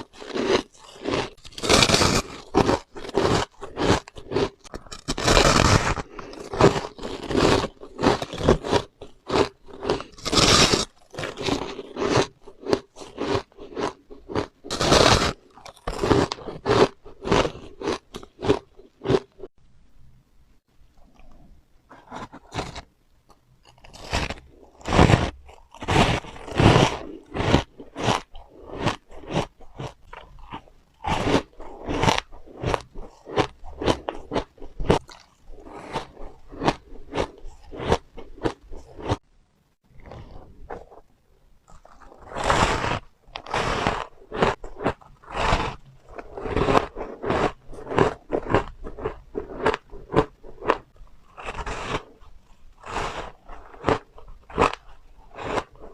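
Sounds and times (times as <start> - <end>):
chewing crunchy ice: 0.0 - 19.5, 21.0 - 39.2, 39.9 - 55.9.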